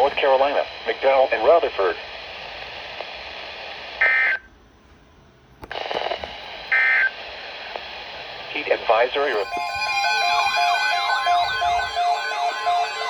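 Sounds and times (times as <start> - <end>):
radio hiss: 0.0 - 4.5, 5.6 - 13.0.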